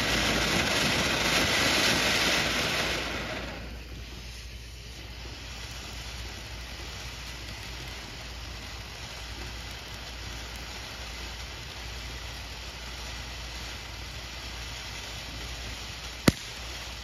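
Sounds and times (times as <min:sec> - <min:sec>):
fountain firework hissing: 0:00.0 - 0:17.0.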